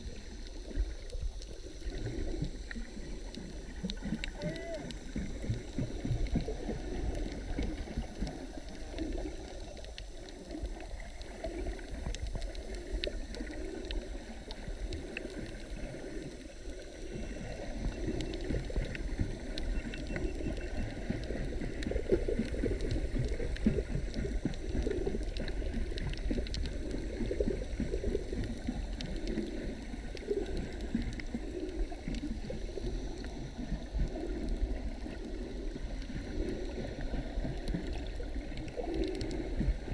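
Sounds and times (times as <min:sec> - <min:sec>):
muffled underwater churning rumble: 0:00.0 - 0:39.9
faint clicks: 0:00.1 - 0:39.9.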